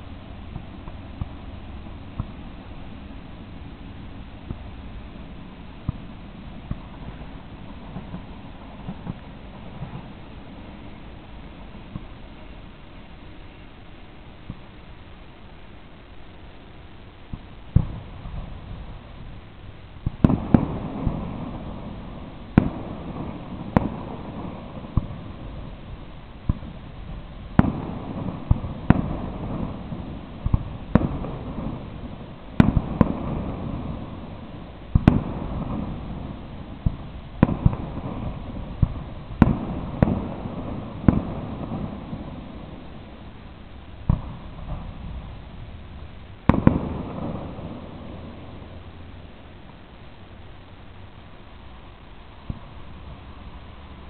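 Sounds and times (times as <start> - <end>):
fireworks bursting: 0.0 - 54.0
low rolling echo: 0.0 - 54.0.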